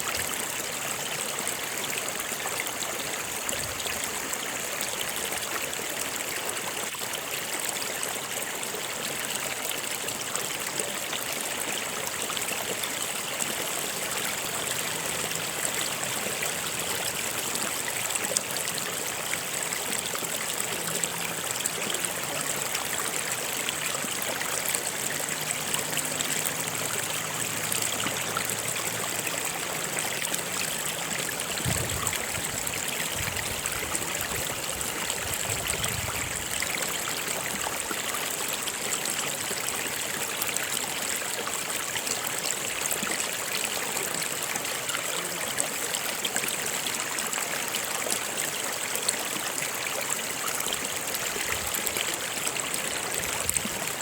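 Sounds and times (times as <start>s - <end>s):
stream water trickling over rocks: 0.0s - 54.0s.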